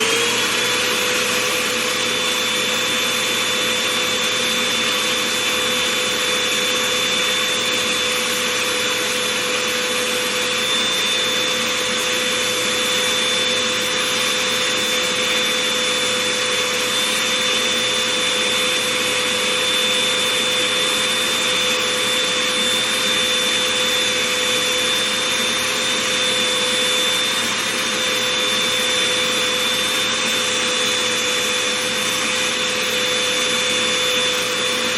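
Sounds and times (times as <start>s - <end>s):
vacuum cleaner whining: 0.0s - 34.9s.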